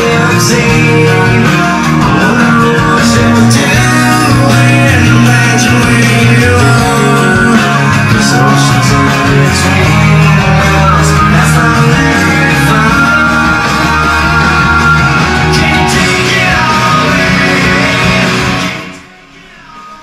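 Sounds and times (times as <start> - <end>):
guitar song through loudspeakers: 0.0 - 20.0.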